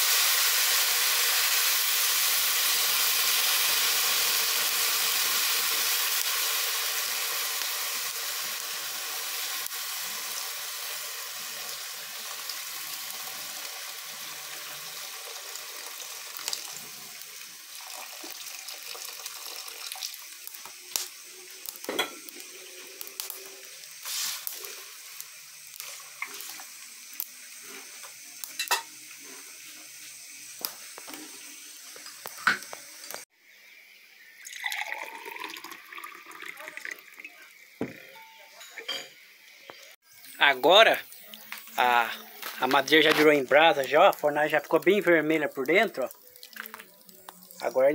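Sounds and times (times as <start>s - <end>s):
water hissing in hot pot: 0.0s - 47.9s.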